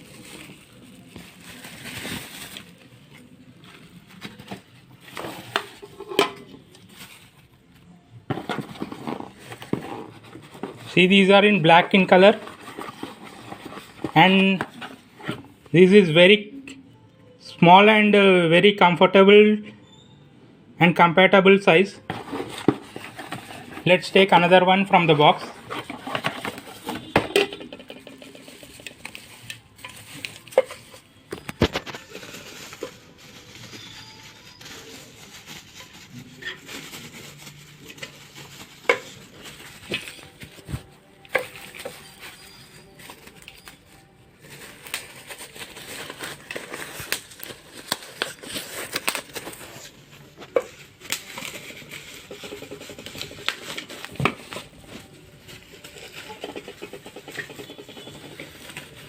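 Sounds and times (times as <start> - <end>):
packaging rustling and crinkling: 0.0 - 15.6, 22.0 - 59.0.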